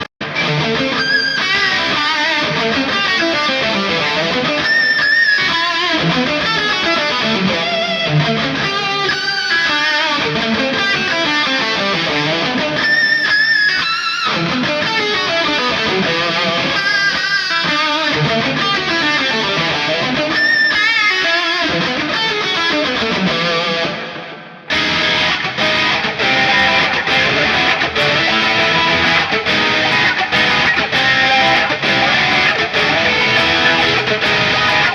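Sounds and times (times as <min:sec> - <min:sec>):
electric guitar playing: 0:00.0 - 0:34.9.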